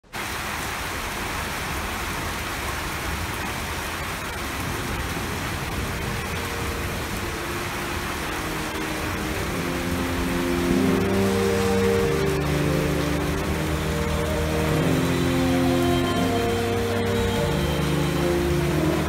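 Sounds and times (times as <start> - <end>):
rain falling on concrete: 0.0 - 19.0.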